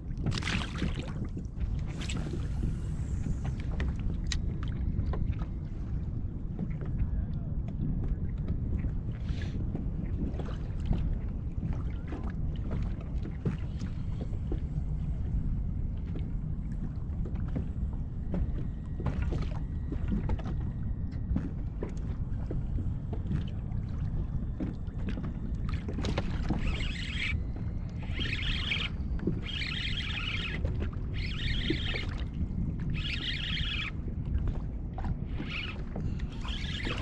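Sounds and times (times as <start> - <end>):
water against hull: 0.0 - 37.0
wind on microphone: 0.0 - 37.0.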